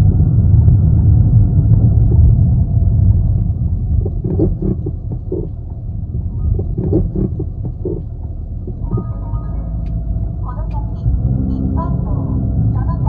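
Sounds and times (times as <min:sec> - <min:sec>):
car road rumble: 0:00.0 - 0:13.0
suspension clunking: 0:01.1 - 0:13.0.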